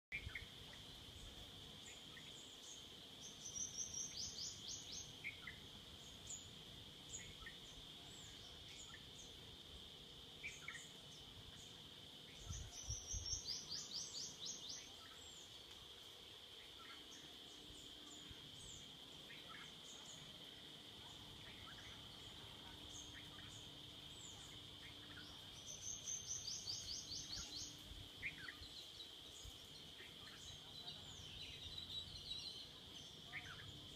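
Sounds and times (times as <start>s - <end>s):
high insect drone: 0.1s - 33.9s.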